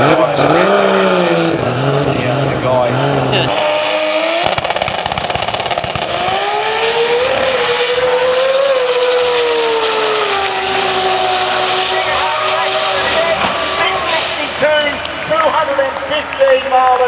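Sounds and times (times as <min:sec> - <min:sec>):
drag car engine at full throttle: 0:00.0 - 0:17.0.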